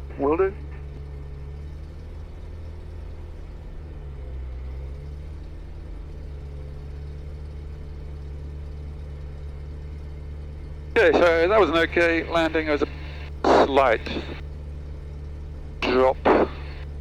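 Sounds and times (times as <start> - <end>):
light aircraft engine droning: 0.0 - 17.0.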